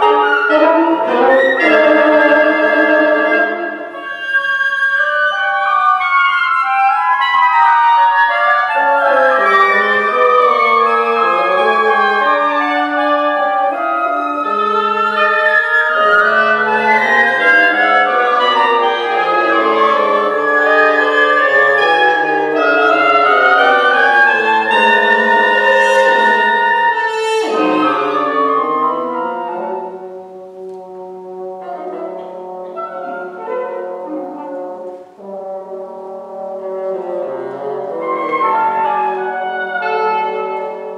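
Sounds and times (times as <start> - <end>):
woodwind quintet playing: 0.0 - 40.9.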